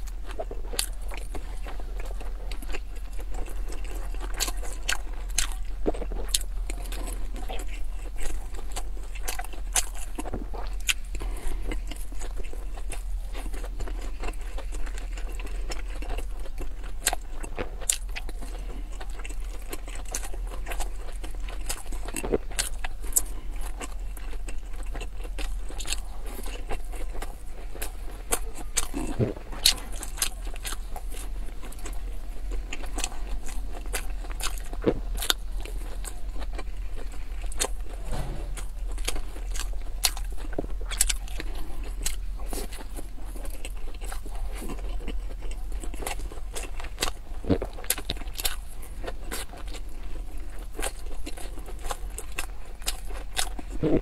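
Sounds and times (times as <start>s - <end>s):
steady low hum: 0.0s - 44.9s
chewing and mouth smacks: 0.0s - 54.0s.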